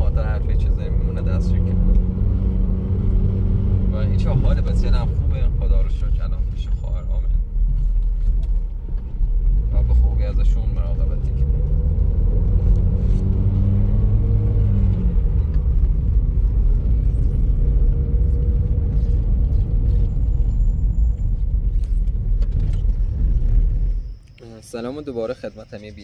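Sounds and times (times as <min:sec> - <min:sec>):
car engine road rumble: 0:00.0 - 0:26.0.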